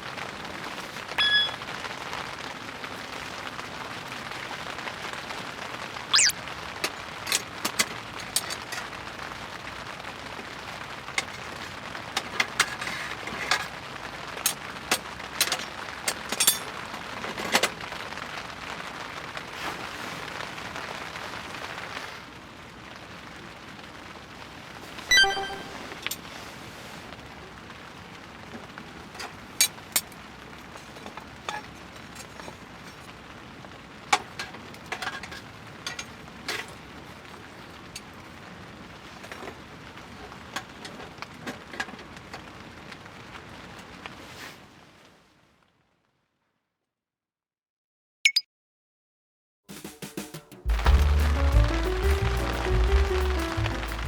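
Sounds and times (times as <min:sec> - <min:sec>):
steady rain: 0:00.0 - 0:46.2, 0:50.7 - 0:54.0.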